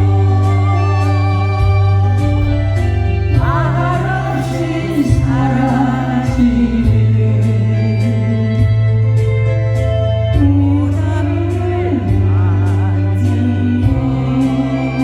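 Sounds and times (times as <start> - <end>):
person singing with vibrato: 0.0 - 9.3, 10.3 - 15.0
instrumental backing: 0.0 - 15.0.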